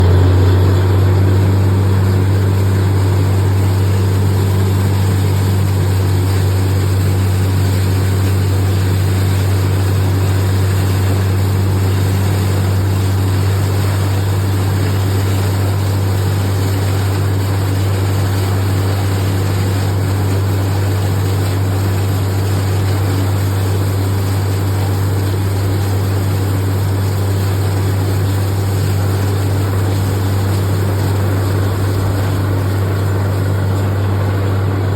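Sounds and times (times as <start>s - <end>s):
loud low hum: 0.0s - 34.9s.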